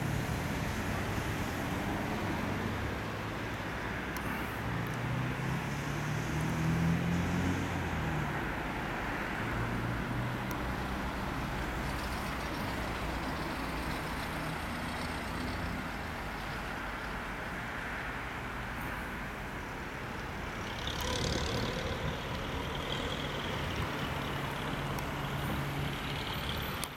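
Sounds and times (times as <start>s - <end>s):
vehicles passing on a road: 0.0s - 26.9s.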